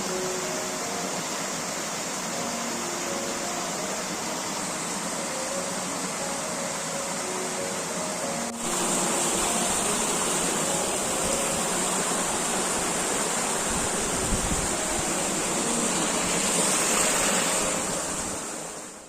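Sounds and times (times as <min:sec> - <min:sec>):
high steady hiss: 0:00.0 - 0:19.0
water rushing: 0:00.0 - 0:19.0.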